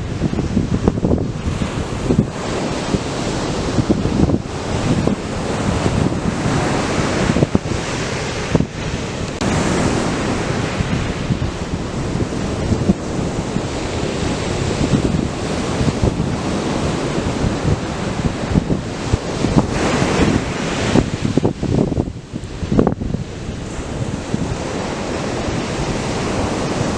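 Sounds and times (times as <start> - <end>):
surf breaking on a beach: 0.0 - 26.9
wind buffeting the microphone: 0.0 - 26.9.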